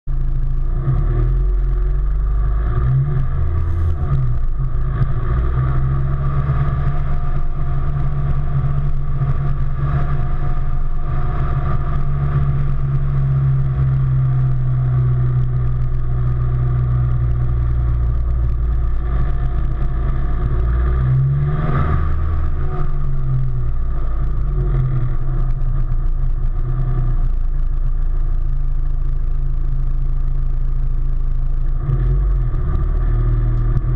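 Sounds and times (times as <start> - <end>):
road noise: 0.0 - 33.9
vehicle engine running: 0.0 - 33.9.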